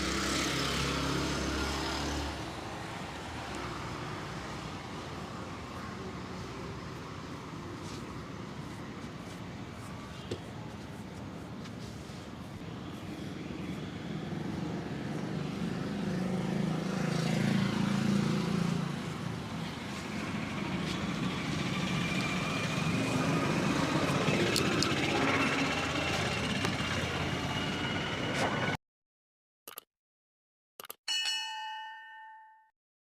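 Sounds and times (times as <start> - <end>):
vehicle engines passing: 0.0 - 28.8.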